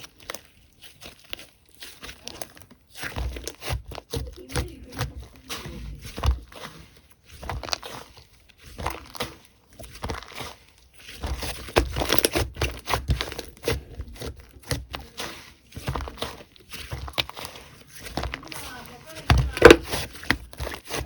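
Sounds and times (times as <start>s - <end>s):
slime squished by hand: 0.0s - 21.0s.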